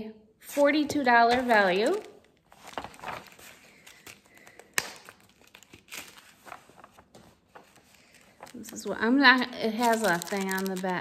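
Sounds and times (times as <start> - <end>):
plastic packaging crinkling: 1.2 - 11.0.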